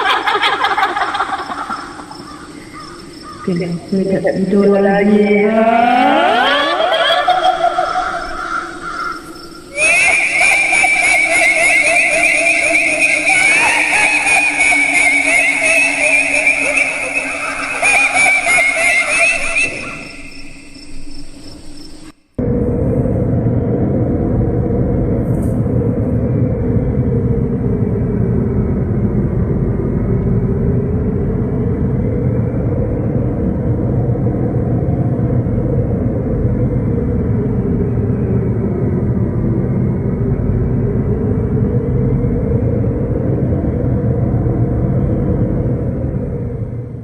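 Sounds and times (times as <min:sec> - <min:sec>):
low rumbling drone: 0:00.0 - 0:47.0.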